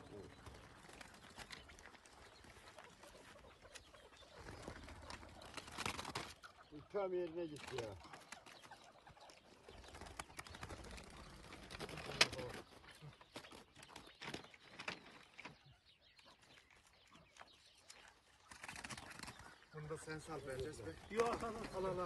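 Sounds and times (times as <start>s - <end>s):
partridges calling softly: 0.0s - 22.0s.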